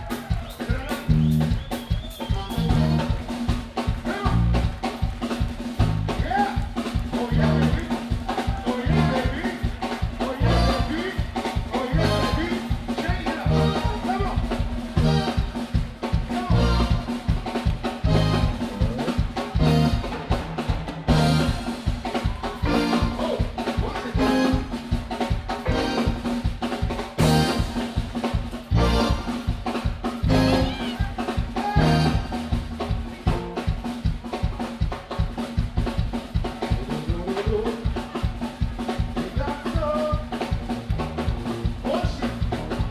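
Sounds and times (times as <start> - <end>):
drum kit beat: 0.0 - 42.9
live band playing dance music: 0.0 - 42.9.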